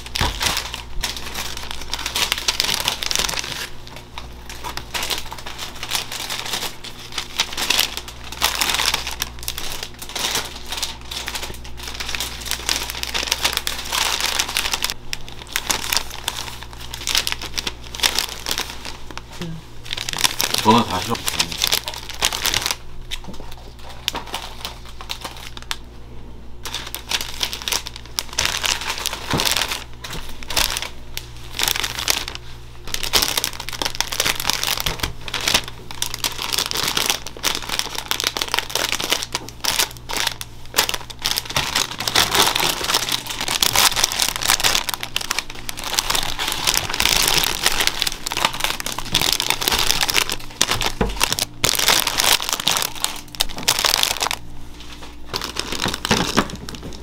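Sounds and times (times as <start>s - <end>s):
plastic bags crinkling: 0.0s - 25.9s, 26.6s - 57.0s.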